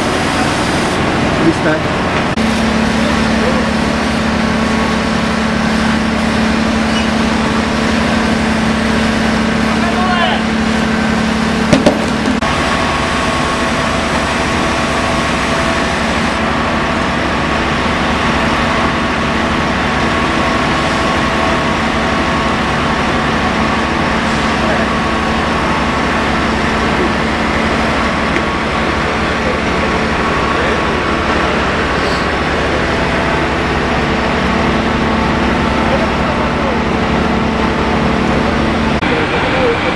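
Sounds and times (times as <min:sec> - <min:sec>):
fire engine motor droning: 0:00.0 - 0:39.9.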